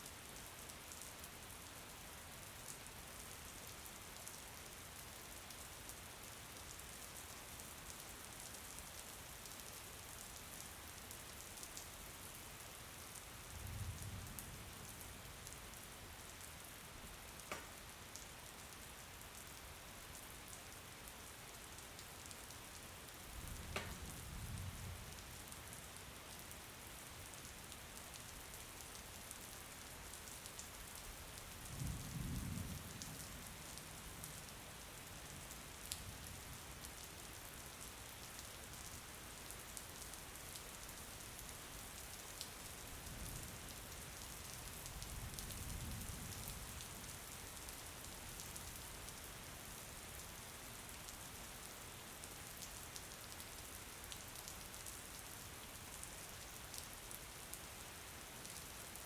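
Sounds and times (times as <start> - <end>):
steady rain pattering: 0.0 - 59.0.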